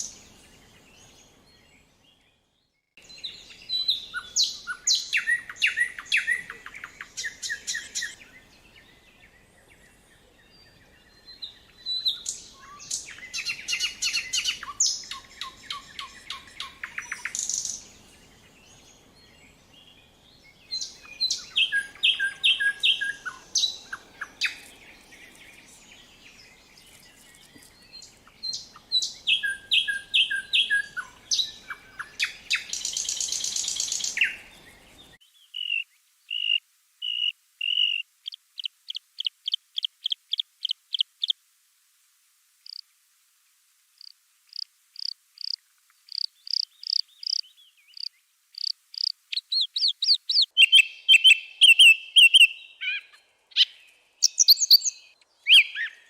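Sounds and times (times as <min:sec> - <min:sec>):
songbirds singing: 0:00.0 - 0:41.4, 0:44.0 - 0:56.0.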